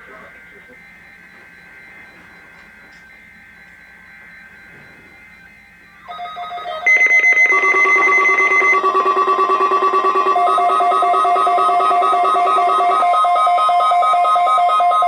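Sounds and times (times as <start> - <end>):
electronic alarm tones pulsing: 0.0 - 15.0.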